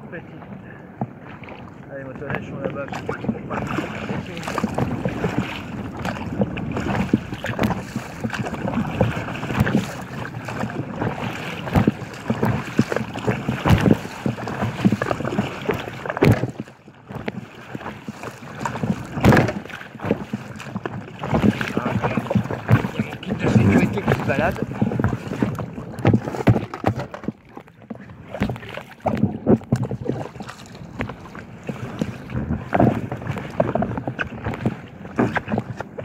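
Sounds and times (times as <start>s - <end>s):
waves slapping kayak hull: 0.0s - 36.0s
wind buffeting microphone: 0.0s - 36.0s.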